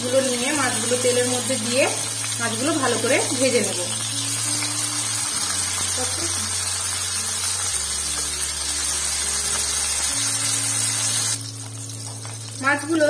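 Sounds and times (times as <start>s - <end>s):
fish sizzling in a frying pan: 0.0s - 13.0s.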